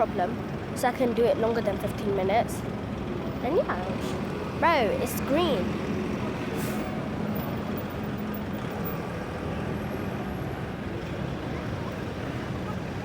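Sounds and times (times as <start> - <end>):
road traffic driving past: 0.0 - 13.0.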